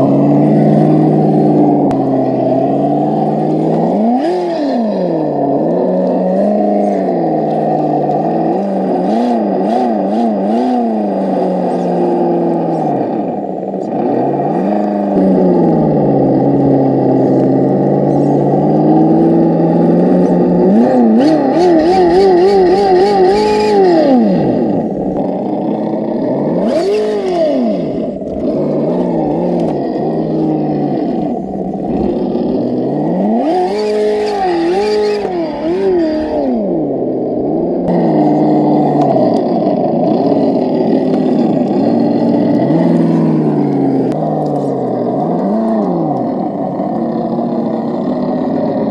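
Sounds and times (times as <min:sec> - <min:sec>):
simulated engine sound from speaker: 0:00.0 - 0:48.9.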